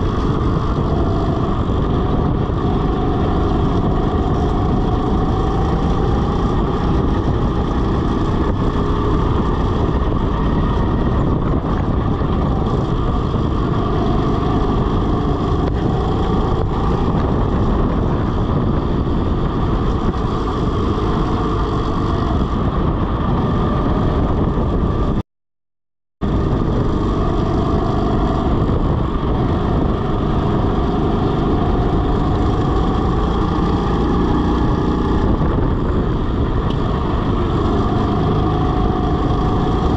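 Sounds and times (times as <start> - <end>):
go-kart engine running: 0.0 - 25.2, 26.2 - 39.9
wind noise: 0.0 - 25.2, 26.2 - 39.9.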